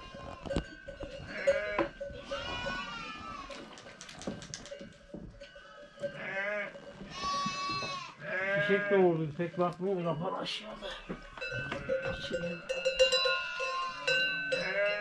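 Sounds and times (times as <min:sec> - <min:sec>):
sheep and goats bleating: 0:00.0 - 0:03.9, 0:05.4 - 0:15.0.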